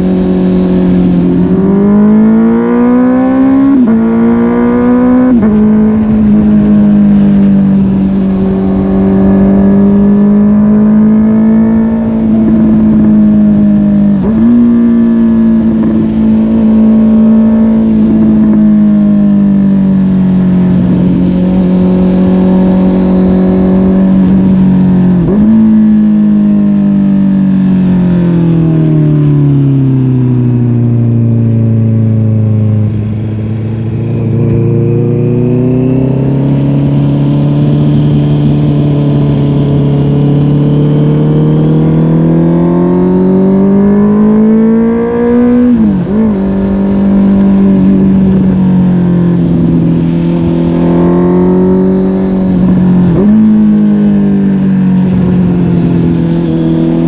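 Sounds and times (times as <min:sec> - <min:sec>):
motorcycle engine while riding: 0:00.0 - 0:57.0.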